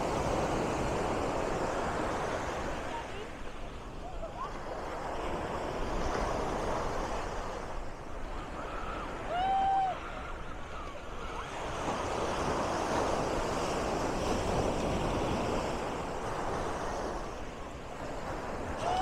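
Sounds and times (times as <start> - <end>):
wave breaking on beach: 0.0 - 19.0
wind on microphone: 0.0 - 19.0.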